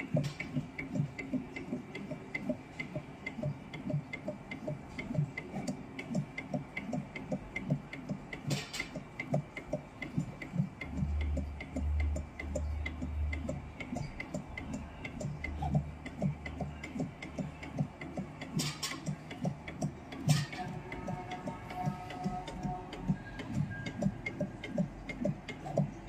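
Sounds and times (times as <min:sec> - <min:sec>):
soldering machine ticking: 0:00.0 - 0:26.0.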